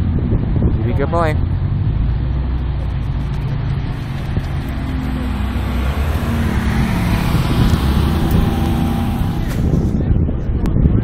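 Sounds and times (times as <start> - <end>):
car engine running at low speed: 0.0 - 10.6.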